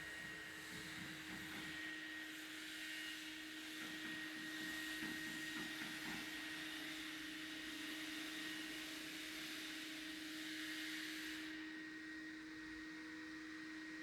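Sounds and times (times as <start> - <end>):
hiss: 0.0 - 11.7.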